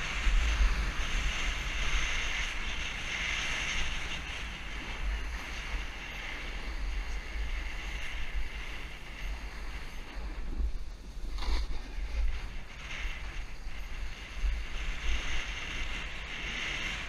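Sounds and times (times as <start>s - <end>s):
snowboard sliding on snow: 0.0s - 17.0s
wind buffeting microphone: 0.0s - 17.0s.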